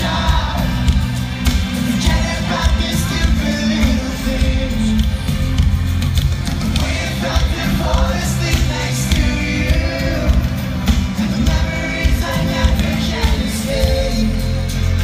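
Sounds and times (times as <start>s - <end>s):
live pop rock band with singing: 0.0s - 15.0s.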